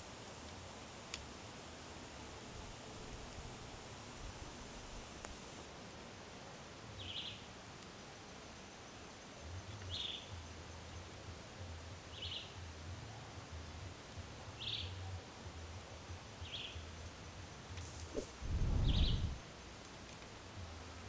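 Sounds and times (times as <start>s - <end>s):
faint forest ambience: 0.0s - 21.0s.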